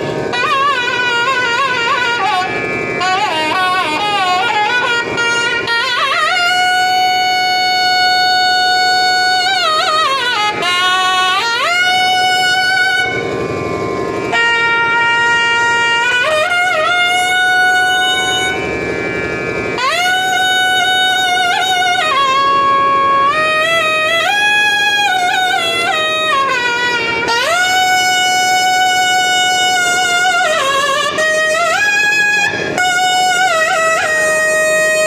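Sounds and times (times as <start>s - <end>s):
double-reed horn melody: 0.0s - 35.0s.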